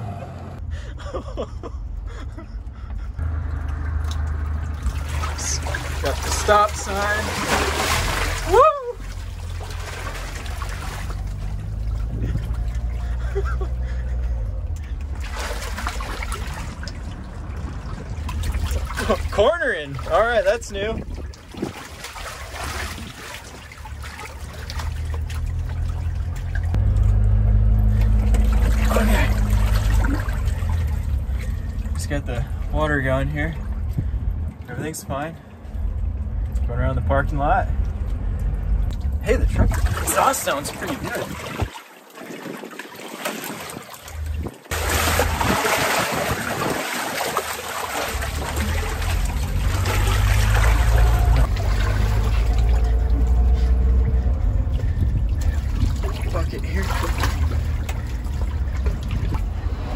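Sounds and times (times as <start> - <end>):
low rumble: 0.0 - 40.1, 44.0 - 59.9
truck engine and exhaust drone: 0.0 - 41.3, 44.1 - 59.9
water sloshing and splashing: 2.1 - 59.9.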